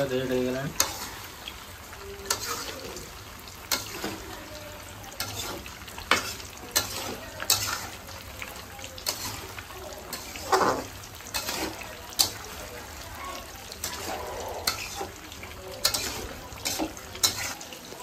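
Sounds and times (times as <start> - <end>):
fish sizzling in hot oil: 0.0 - 18.0
stirring clicks and scrapes in pan: 0.6 - 18.0.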